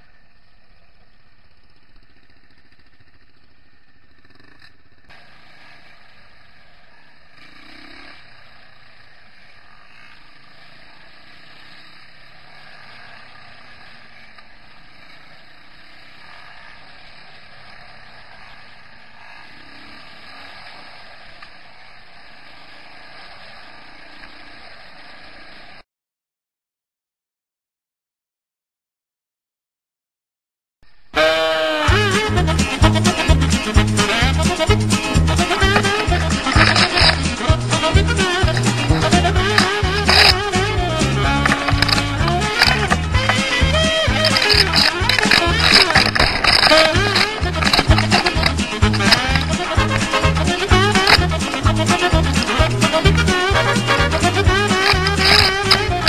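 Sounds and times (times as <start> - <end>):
off-road motorcycle engine: 0.0 - 25.8, 30.9 - 56.0.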